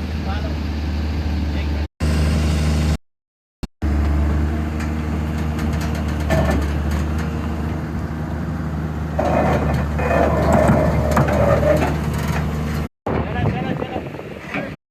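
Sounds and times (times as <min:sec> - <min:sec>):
heavy diesel engine humming: 0:00.0 - 0:03.0, 0:03.8 - 0:12.9.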